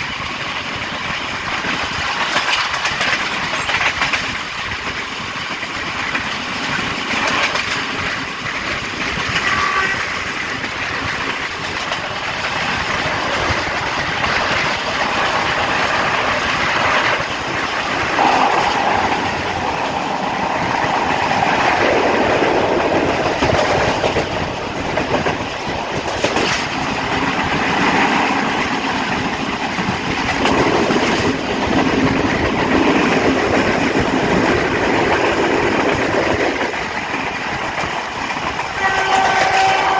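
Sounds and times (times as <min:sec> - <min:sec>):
train wheel and rail noise: 0:00.0 - 0:39.9
wind rushing: 0:06.5 - 0:38.7.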